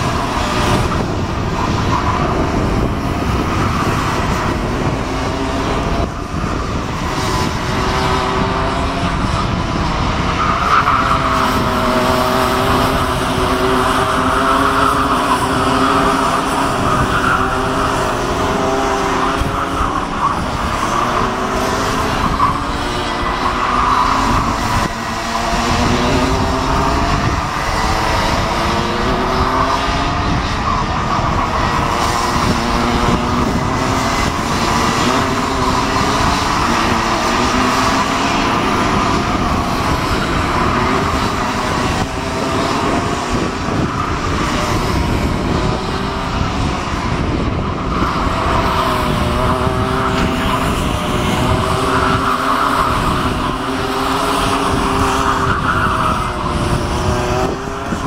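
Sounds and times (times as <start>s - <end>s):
kart engines buzzing: 0.0s - 58.0s.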